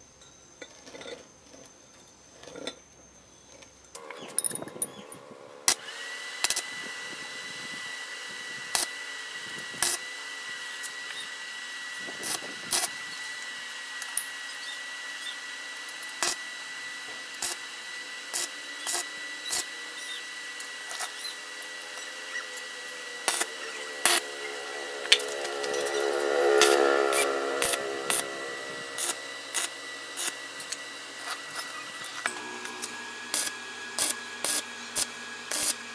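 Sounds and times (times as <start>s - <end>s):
steady high whine: 4.0s - 35.9s
welding arc bursts: 5.6s - 35.9s.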